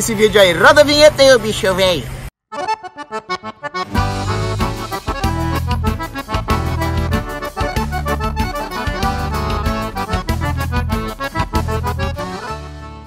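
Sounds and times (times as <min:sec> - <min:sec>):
upbeat accordion music with beat: 0:02.5 - 0:13.0.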